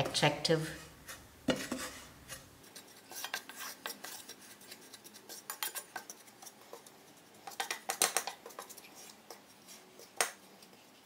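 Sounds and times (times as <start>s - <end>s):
wooden spoon scraping a pan: 0.0s - 11.0s.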